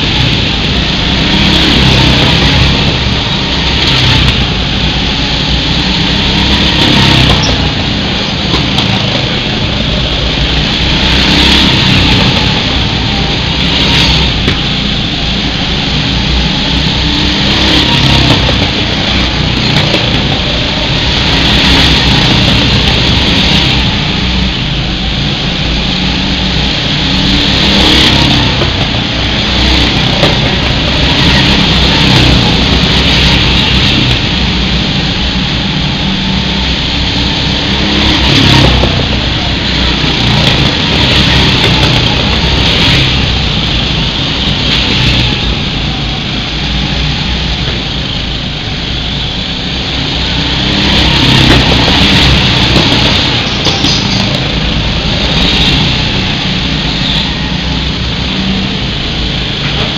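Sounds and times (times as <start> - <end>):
go-kart engines passing: 0.0 - 59.9.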